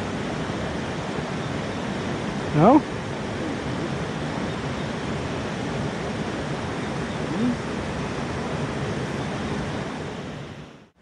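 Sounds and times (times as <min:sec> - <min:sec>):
river water rushing: 0:00.0 - 0:10.9.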